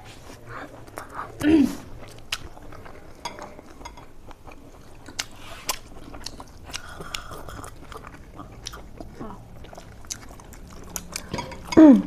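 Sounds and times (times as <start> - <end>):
person chewing and biting: 2.0 - 11.7.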